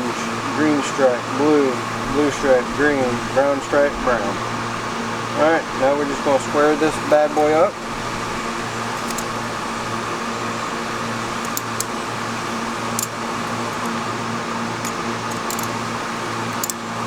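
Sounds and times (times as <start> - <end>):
generator humming: 0.0 - 17.0.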